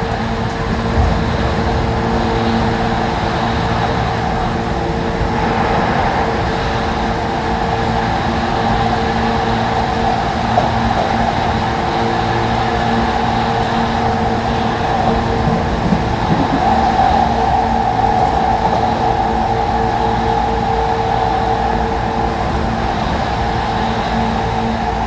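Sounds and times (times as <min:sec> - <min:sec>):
electric train hum: 0:00.0 - 0:25.0
train rumble: 0:00.0 - 0:25.0.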